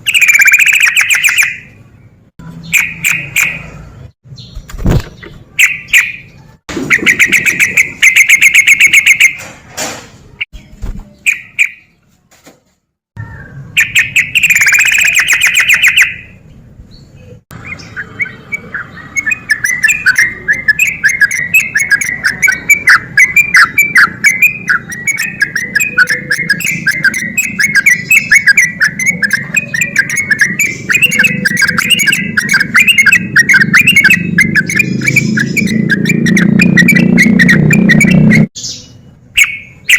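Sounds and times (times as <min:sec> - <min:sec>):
bulbul singing: 0:00.0 - 0:09.4, 0:10.5 - 0:12.0, 0:13.2 - 0:39.9.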